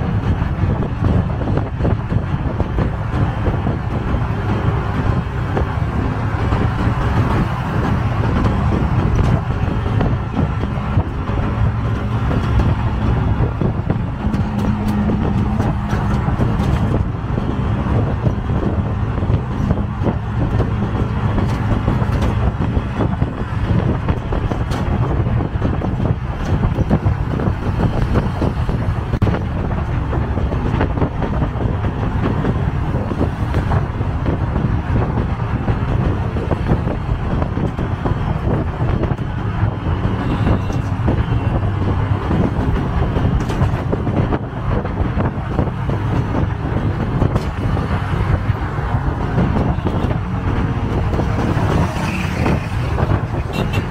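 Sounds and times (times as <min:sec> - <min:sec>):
auto-rickshaw engine running: 0:00.0 - 0:53.9
road noise: 0:00.0 - 0:53.9
wind noise: 0:00.0 - 0:53.9.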